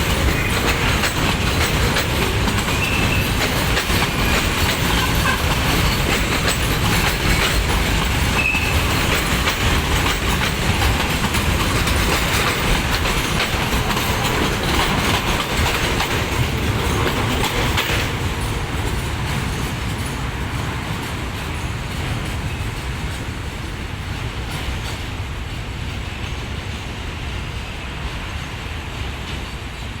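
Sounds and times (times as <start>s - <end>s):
freight train wheels clattering: 0.0s - 30.0s.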